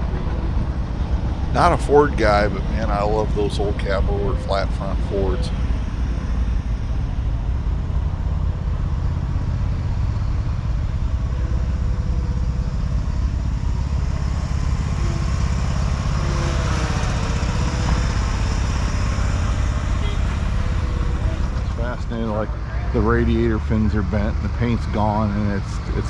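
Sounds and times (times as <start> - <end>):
faint wavering tones: 0.0 - 26.0
low outdoor rumble: 0.0 - 26.0.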